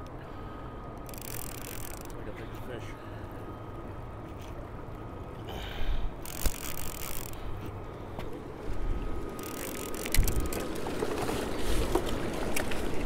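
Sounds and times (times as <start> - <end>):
low rumble of boat and river: 0.0 - 13.0.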